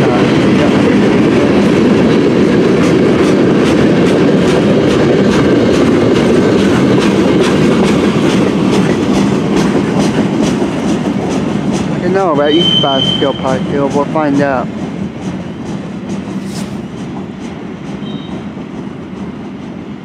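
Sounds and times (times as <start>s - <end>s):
wheels clacking over rail joints: 0.0s - 19.9s
steel wheels rumbling on rail: 0.0s - 20.0s.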